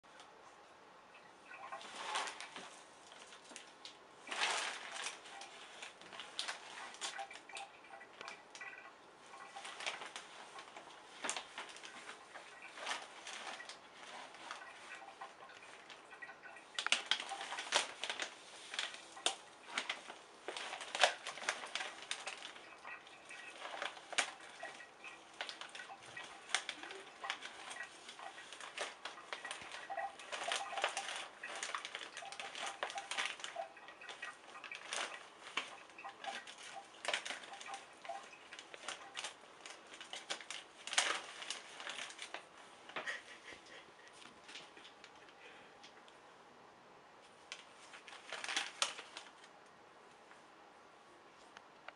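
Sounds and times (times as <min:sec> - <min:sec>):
rustling and crackling: 0:01.2 - 0:46.1, 0:47.2 - 0:50.5.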